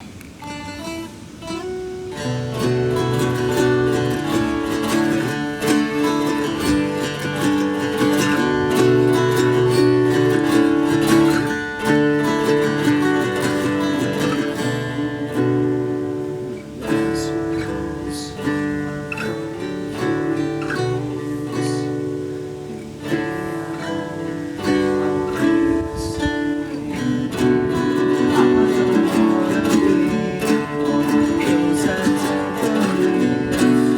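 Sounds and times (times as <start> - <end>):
acoustic guitar chords: 0.0 - 33.9.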